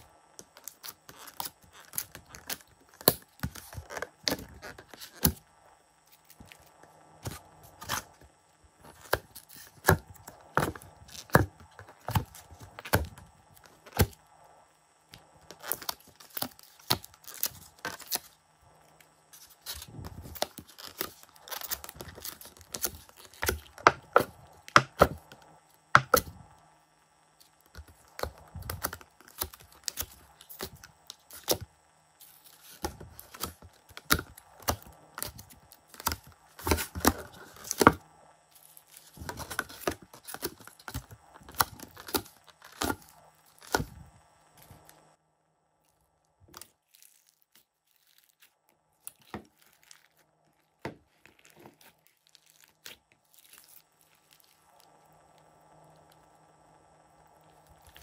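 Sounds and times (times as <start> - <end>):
plastic blister tray crinkling and popping: 0.0 - 5.4, 6.1 - 14.2, 15.1 - 26.5, 27.4 - 38.0, 38.6 - 44.0, 46.4 - 56.3, 57.4 - 58.0.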